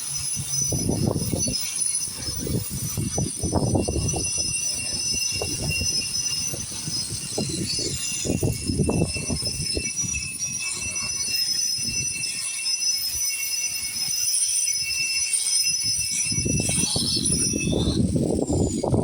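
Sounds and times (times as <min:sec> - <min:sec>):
power grinder whining: 0:00.0 - 0:19.0.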